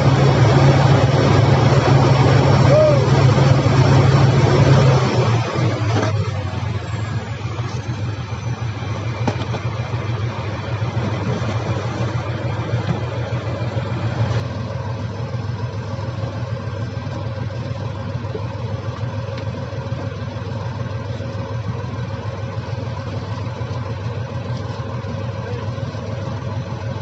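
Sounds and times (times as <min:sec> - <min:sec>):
diesel engine of heavy machinery: 0:00.0 - 0:27.0.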